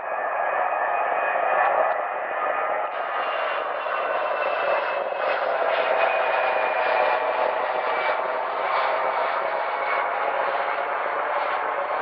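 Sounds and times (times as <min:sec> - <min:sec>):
jet airliner engines roaring: 0:00.0 - 0:12.0.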